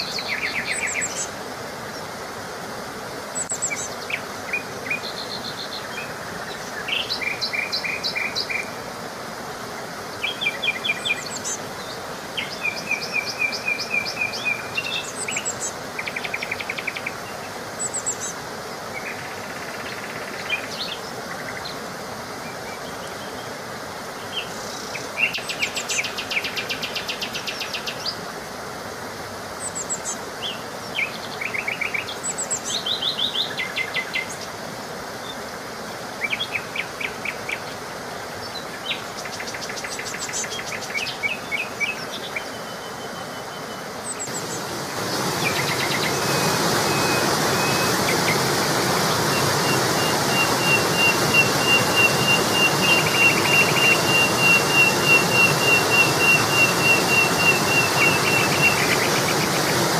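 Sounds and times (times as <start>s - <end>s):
songbirds singing and chirping: 0.0s - 2.2s, 3.3s - 28.3s, 29.5s - 59.9s
steady rushing hiss: 0.0s - 43.2s, 43.8s - 59.9s.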